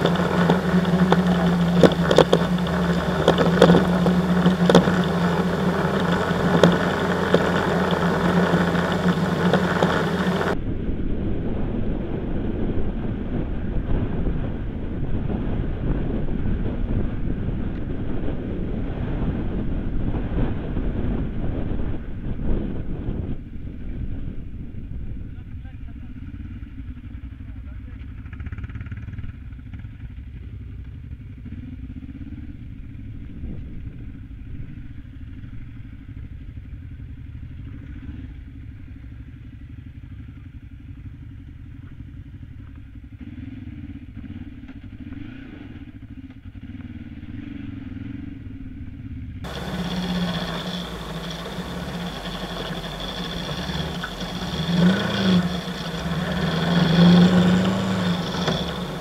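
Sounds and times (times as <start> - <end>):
motorcycle engine revving: 0.0 - 59.0
muffled motorcycle engine: 0.0 - 59.0.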